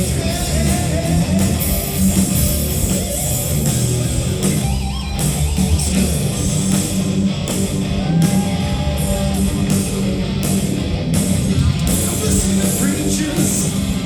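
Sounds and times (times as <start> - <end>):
live rock band: 0.0 - 14.0
loud electric guitar: 0.0 - 14.0.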